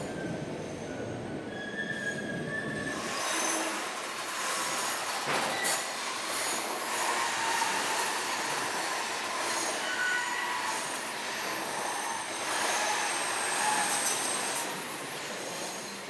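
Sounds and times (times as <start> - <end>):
wheel squeals: 0.0 - 3.8, 5.4 - 16.0.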